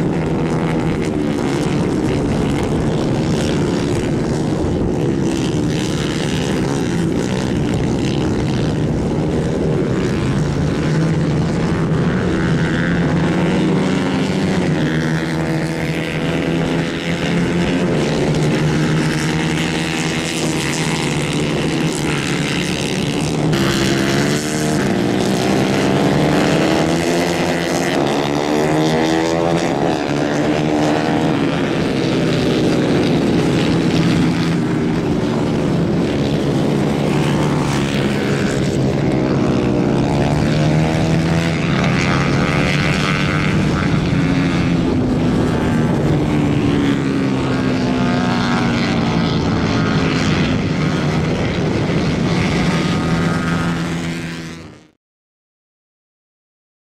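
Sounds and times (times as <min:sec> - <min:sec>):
kart engines revving: 0:00.0 - 0:54.7.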